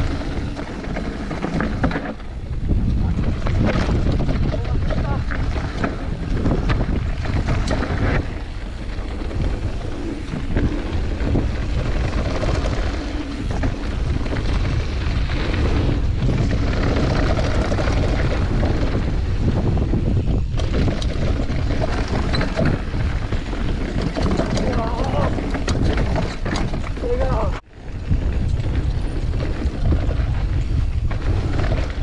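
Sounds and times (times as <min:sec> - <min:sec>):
bike rattling: 0:00.0 - 0:32.0
bike tyres rolling on dirt: 0:00.0 - 0:32.0
wind buffeting microphone: 0:00.0 - 0:32.0.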